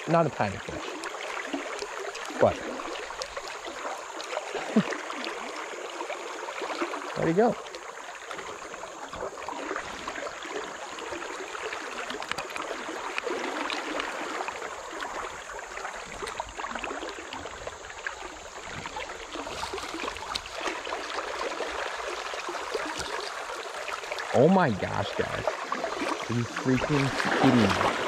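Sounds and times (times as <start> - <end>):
river water gurgling: 0.0 - 28.0
small water splashes: 0.0 - 28.0.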